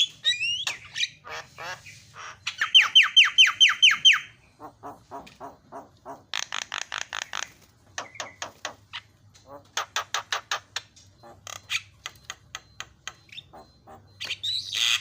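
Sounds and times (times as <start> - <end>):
bird chattering song: 0.0 - 15.0.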